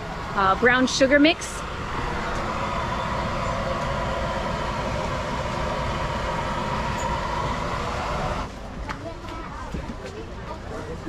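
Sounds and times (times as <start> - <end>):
engine running steadily: 0.0 - 10.2.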